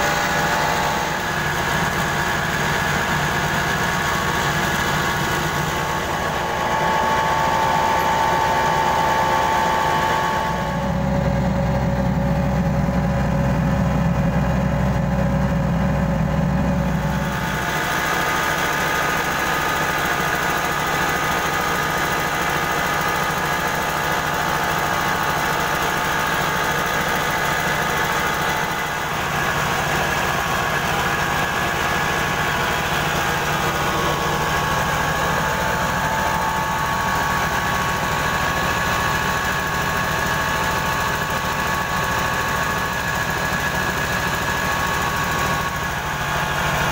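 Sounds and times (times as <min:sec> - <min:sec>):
rice mill machine drone: 0:00.0 - 0:46.9.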